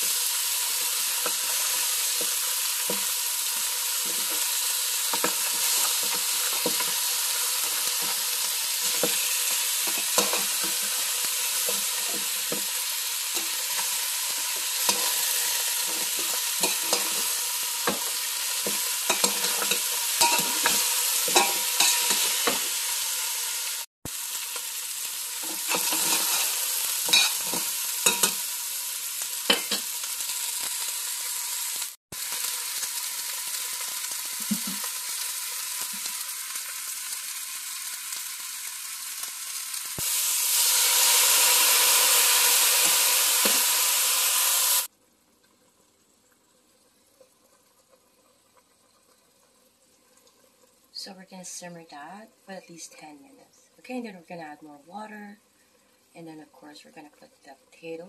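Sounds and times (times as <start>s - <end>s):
meat sizzling in a pot: 0.0s - 58.0s.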